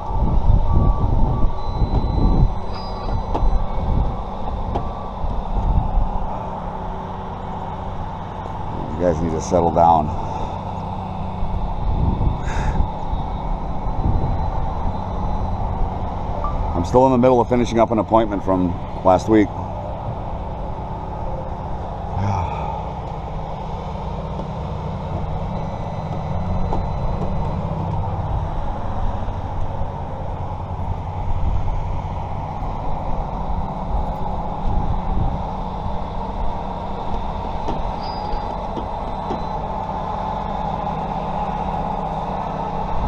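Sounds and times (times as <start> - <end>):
vehicle engine and road rumble: 0.0 - 43.0.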